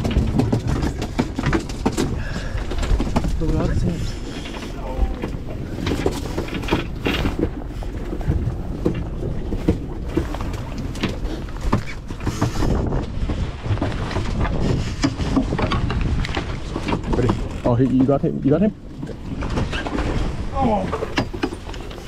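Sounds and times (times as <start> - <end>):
knocks and clatter: 0.0 - 22.0
low boat rumble: 0.0 - 22.0.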